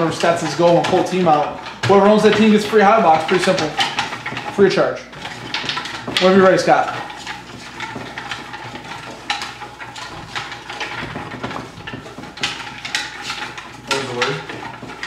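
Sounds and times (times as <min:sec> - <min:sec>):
paper slips rustling in metal pot: 0:00.0 - 0:15.0.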